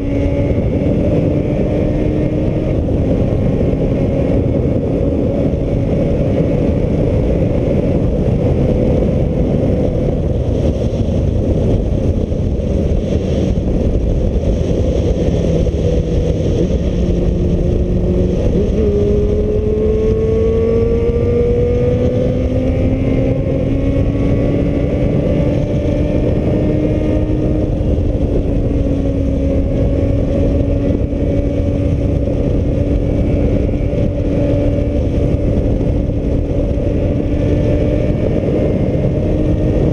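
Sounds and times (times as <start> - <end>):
motorcycle engine humming: 0.0 - 39.9
wind buffeting microphone: 0.0 - 39.9.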